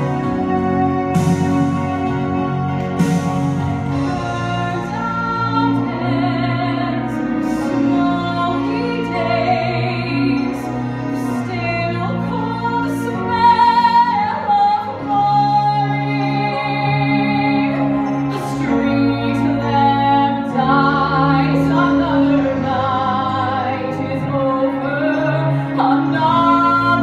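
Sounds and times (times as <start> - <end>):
instrumental backing music: 0.0 - 27.0.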